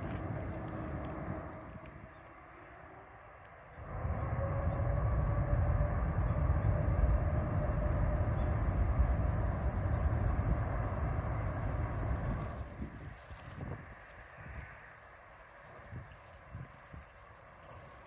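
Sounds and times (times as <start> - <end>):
jet airliner passing overhead: 0.0 - 16.4.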